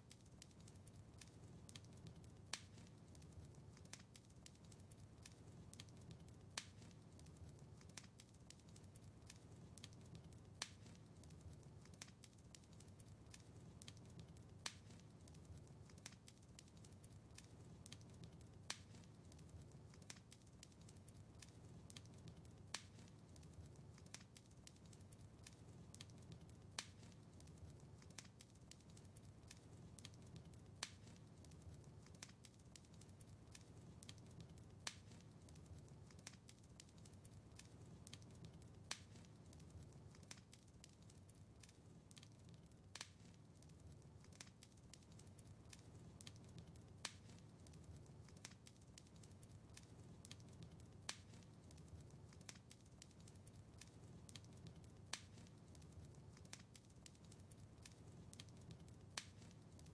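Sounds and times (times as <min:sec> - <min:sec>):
fire snapping: 0:00.0 - 0:59.9
wood fire crackling: 0:00.0 - 0:59.9.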